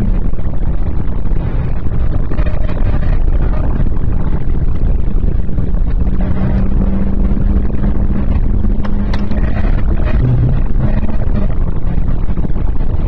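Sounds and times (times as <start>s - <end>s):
car engine running hard: 0.0s - 13.0s
heavy wind: 0.0s - 13.0s
road rumble: 0.0s - 13.0s.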